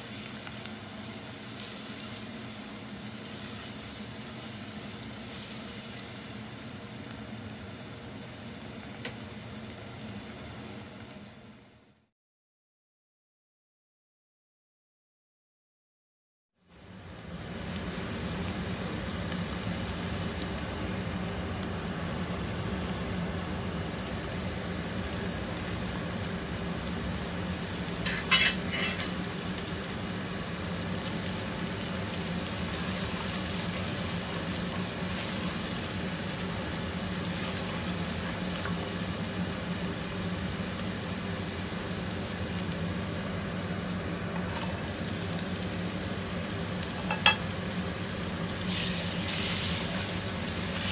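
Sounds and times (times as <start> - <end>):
onions sizzling in oil: 0.0 - 12.1, 16.6 - 50.9.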